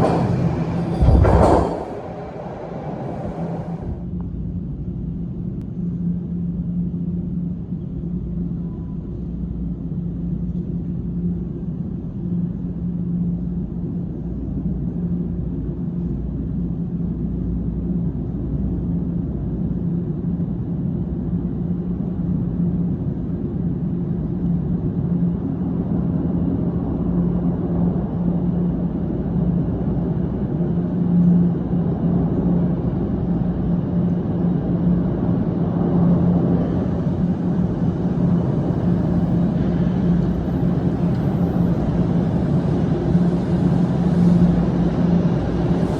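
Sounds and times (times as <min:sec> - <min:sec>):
steady low hum: 0:00.0 - 0:45.9
subway train rumbling: 0:00.0 - 0:45.9.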